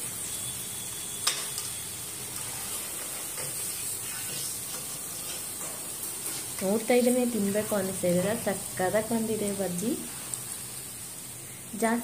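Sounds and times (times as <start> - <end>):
deep-frying sizzle in oil: 0.0 - 12.0.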